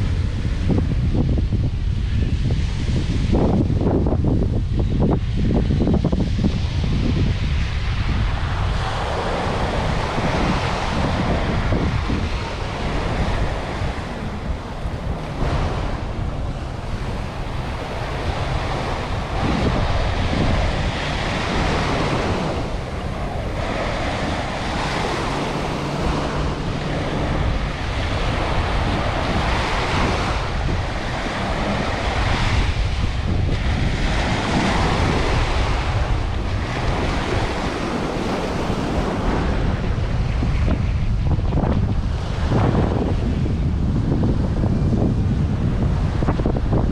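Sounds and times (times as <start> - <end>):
ocean surf breaking: 0.0 - 46.9
wind rumble on microphone: 0.0 - 46.9.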